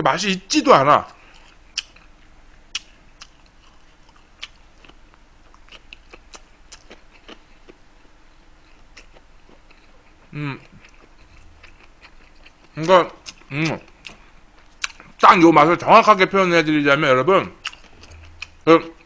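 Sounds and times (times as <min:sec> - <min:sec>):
person chewing food: 0:01.1 - 0:15.2, 0:17.6 - 0:19.0.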